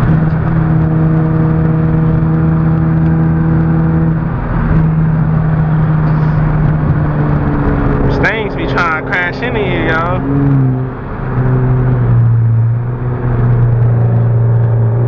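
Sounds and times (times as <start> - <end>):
car engine drone: 0.0 - 15.0
road noise inside car: 0.0 - 15.0.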